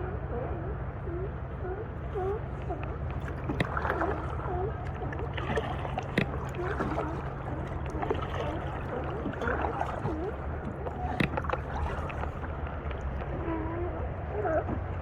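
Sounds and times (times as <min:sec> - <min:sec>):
low rumble: 0:00.3 - 0:15.0
water sloshing around kayak: 0:00.8 - 0:15.0.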